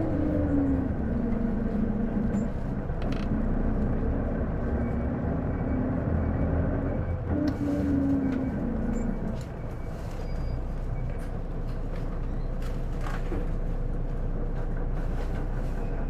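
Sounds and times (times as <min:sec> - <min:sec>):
bus diesel engine humming: 0:00.0 - 0:16.0.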